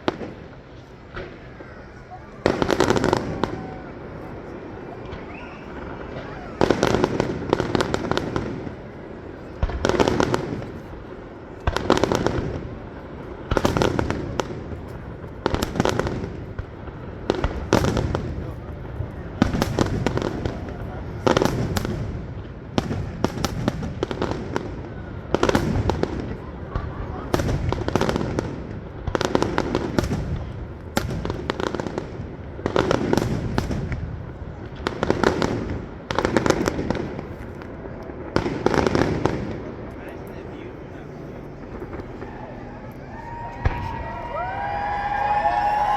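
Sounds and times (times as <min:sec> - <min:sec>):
firework crackling: 0:00.0 - 0:45.9.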